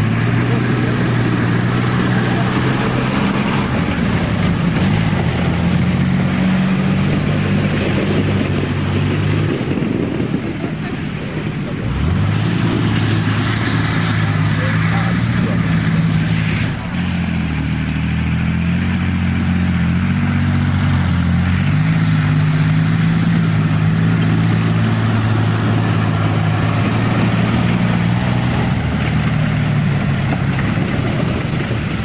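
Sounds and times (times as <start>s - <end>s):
tracked vehicle diesel engine: 0.0s - 32.0s.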